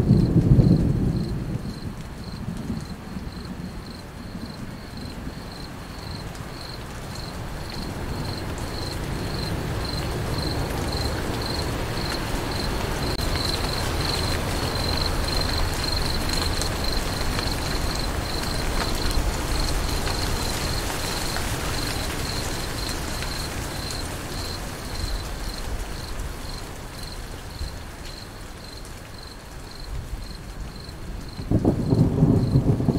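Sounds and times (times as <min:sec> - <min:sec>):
cricket chirping: 0:00.0 - 0:32.9
rain falling: 0:00.0 - 0:32.9.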